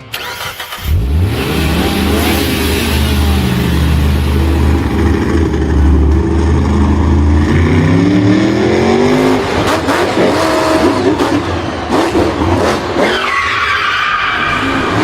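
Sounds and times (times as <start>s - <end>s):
vehicle engine revving: 0.2s - 13.2s.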